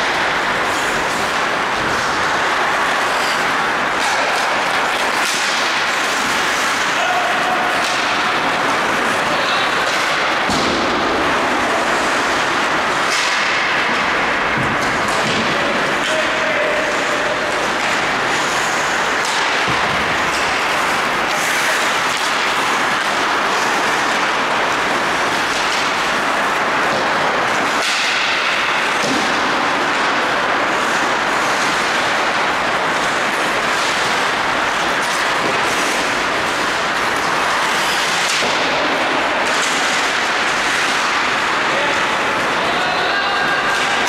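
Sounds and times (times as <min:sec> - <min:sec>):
ice rink noise: 0:00.0 - 0:44.0.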